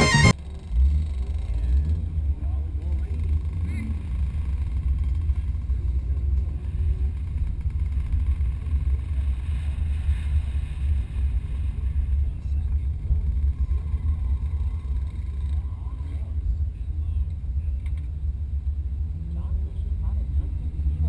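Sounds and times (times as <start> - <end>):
car engine low rumble: 0.0 - 21.0.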